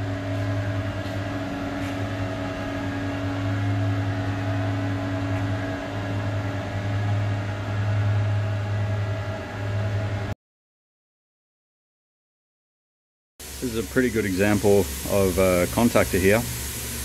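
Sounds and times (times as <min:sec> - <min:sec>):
cooling fans whirring: 0:00.0 - 0:10.4, 0:13.4 - 0:17.0
deep electrical hum: 0:00.0 - 0:10.4, 0:13.4 - 0:17.0.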